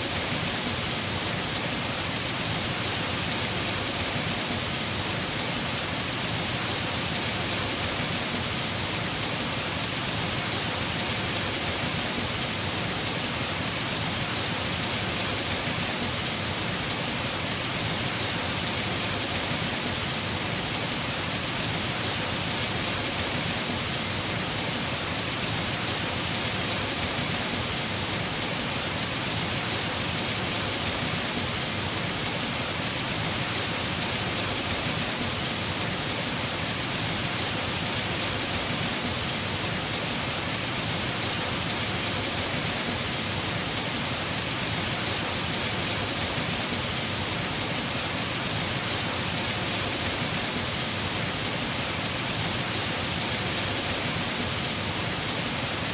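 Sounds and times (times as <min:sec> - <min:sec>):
heavy rain on a roof: 0:00.0 - 0:55.9.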